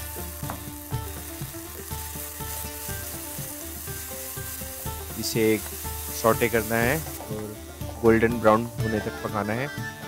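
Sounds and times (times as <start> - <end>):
onions sizzling in hot oil: 0.0 - 9.6.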